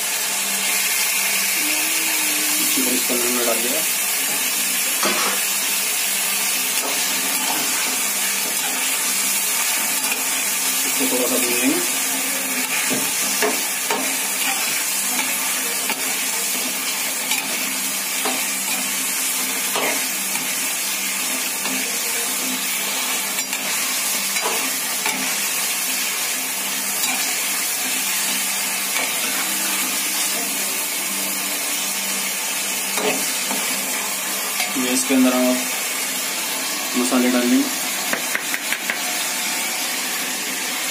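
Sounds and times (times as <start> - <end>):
chicken sizzling in hot oil: 0.0 - 40.9.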